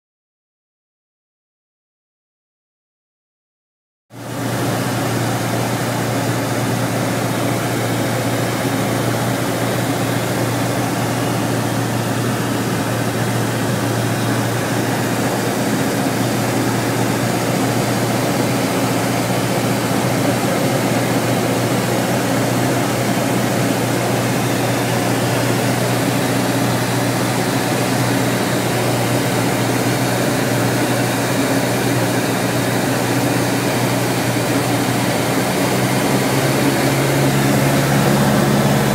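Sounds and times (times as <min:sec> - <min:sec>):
aircraft engine and propeller drone: 0:04.1 - 0:38.9.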